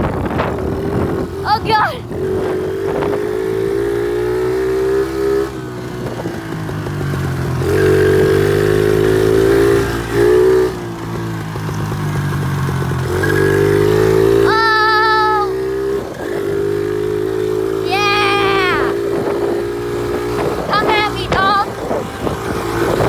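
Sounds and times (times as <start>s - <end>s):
pit bike engine revving: 0.0s - 23.0s.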